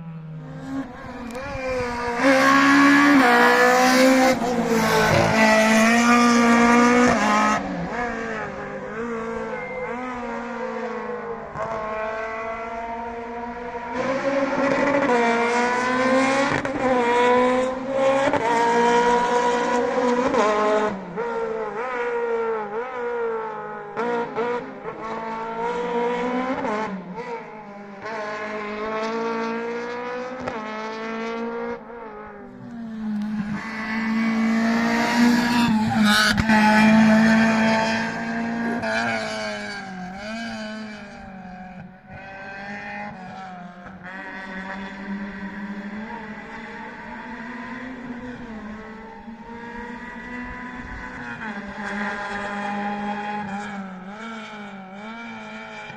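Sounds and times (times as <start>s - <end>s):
rally car engine revving: 0.2s - 55.9s.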